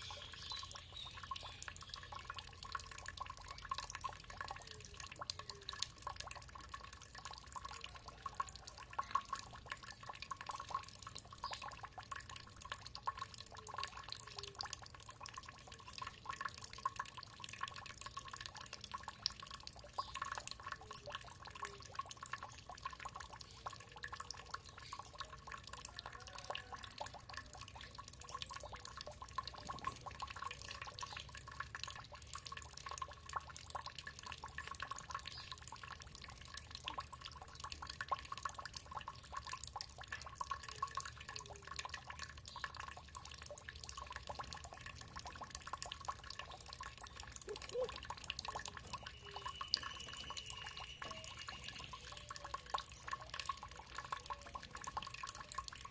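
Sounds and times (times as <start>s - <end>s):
water trickling and dripping: 0.0s - 55.9s.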